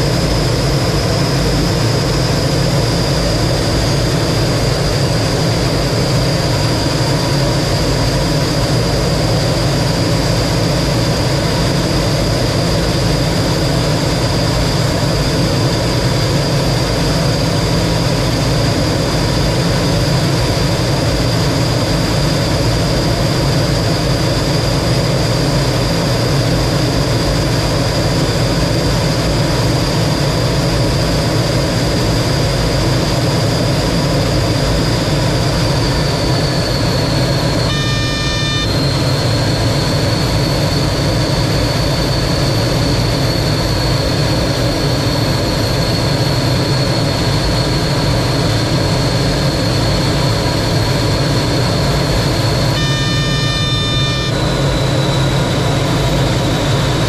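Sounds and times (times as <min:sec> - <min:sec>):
high jet whine: 0:00.0 - 0:57.0
jet engine rumble in flight: 0:00.0 - 0:57.0.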